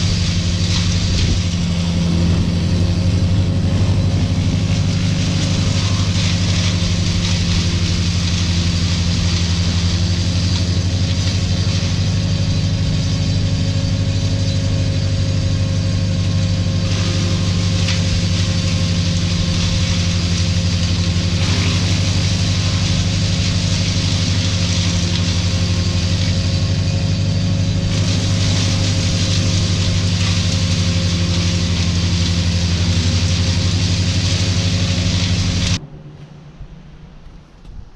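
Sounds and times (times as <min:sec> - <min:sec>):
large engine idling: 0:00.0 - 0:37.9.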